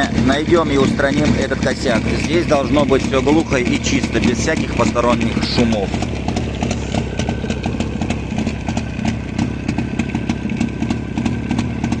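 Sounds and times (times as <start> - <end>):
fast sharp clatter: 0.0 - 12.0
motorcycle engine idling: 0.0 - 12.0.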